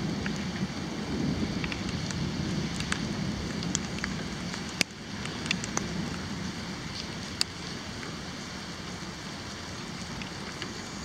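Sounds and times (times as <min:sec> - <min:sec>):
rain on wet pavement: 0:00.0 - 0:11.0.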